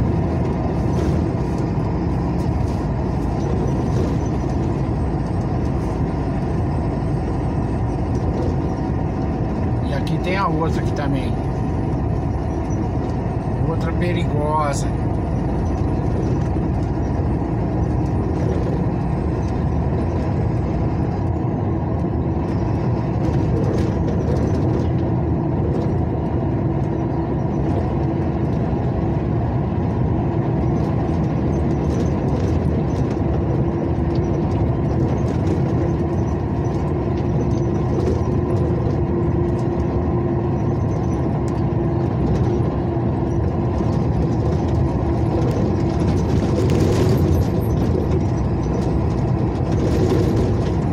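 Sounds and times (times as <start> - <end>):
road noise: 0.0 - 50.9
truck engine running: 0.0 - 50.9.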